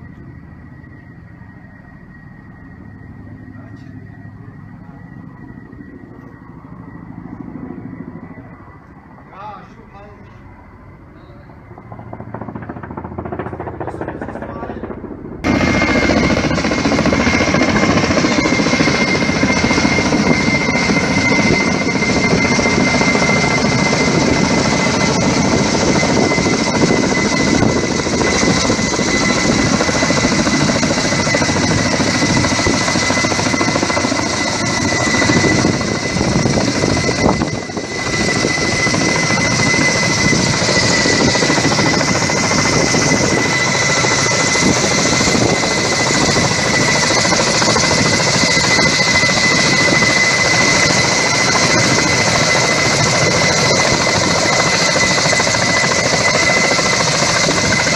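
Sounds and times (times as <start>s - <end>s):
helicopter flying close by: 0.0s - 57.9s
high turbine whine: 0.0s - 57.9s.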